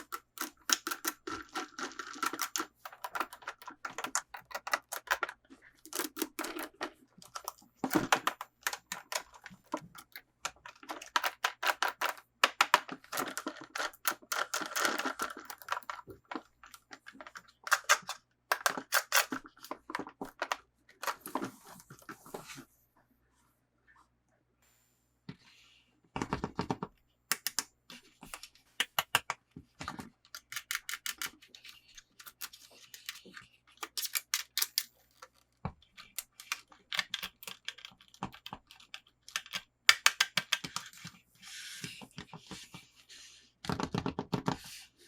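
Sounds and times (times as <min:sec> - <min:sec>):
toy packaging clicks and rustles: 0:00.0 - 0:22.4, 0:26.4 - 0:41.2.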